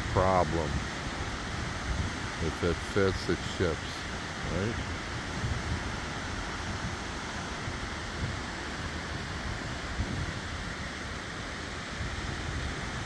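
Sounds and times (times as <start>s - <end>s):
waves breaking on a beach: 0.0s - 13.0s
wind gusting on microphone: 0.0s - 13.0s.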